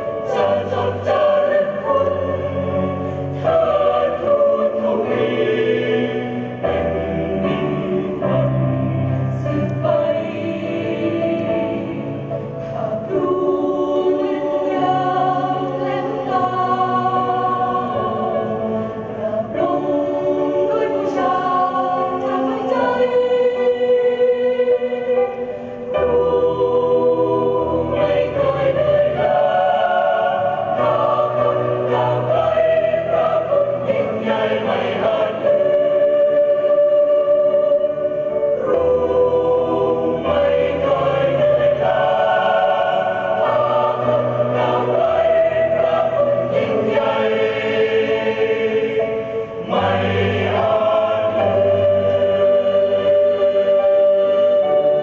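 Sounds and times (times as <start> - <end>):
choir singing in parts: 0.0 - 55.0.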